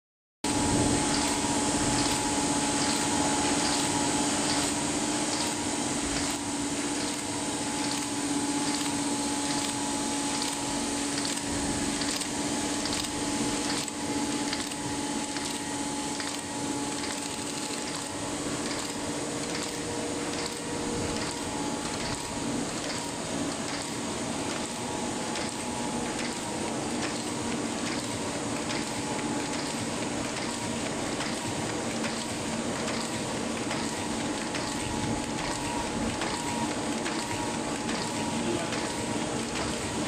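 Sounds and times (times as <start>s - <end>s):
machine motor hum and hiss: 0.5s - 40.0s
machine ticking: 1.1s - 40.0s.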